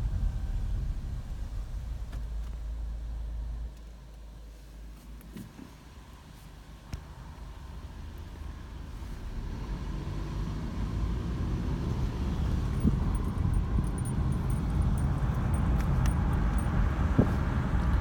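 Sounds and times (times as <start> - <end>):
car engine: 0.0 - 5.4, 6.8 - 18.0
road noise: 0.0 - 18.0.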